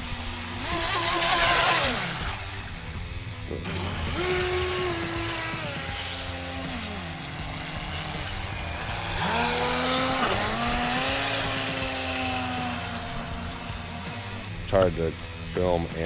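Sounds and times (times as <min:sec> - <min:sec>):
rc boat motor whining: 0:00.0 - 0:15.6.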